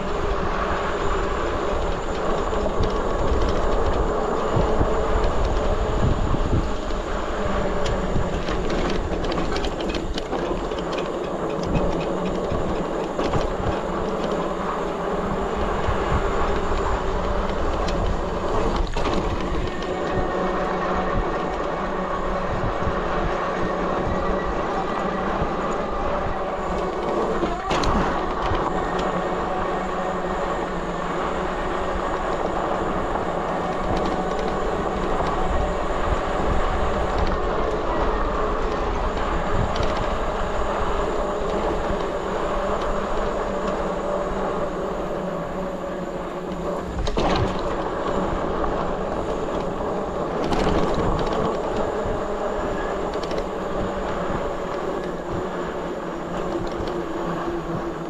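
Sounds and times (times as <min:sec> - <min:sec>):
bike and crate rattling: 0:00.0 - 0:58.0
electric motor whine: 0:00.0 - 0:58.0.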